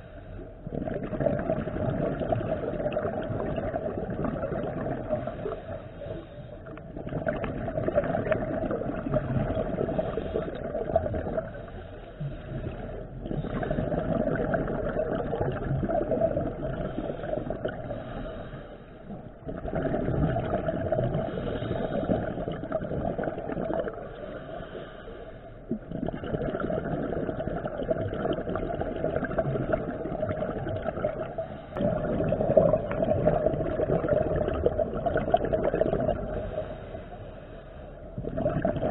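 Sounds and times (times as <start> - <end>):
diver regulator bubbling underwater: 0.0 - 5.8, 6.6 - 18.3, 19.0 - 24.3, 25.6 - 36.8, 38.1 - 38.9.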